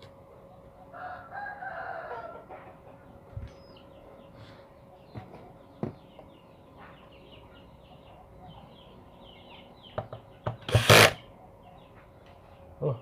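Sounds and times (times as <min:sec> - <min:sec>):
chickens and birds calling: 0:00.0 - 0:13.0.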